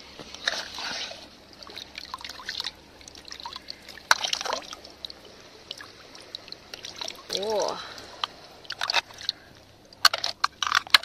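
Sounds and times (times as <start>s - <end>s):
water trickling and dripping: 0.1s - 11.0s.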